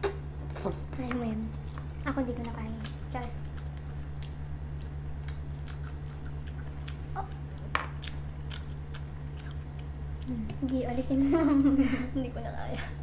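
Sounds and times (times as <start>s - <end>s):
people chewing bread: 0.0s - 13.0s
steady low hum: 0.0s - 13.0s.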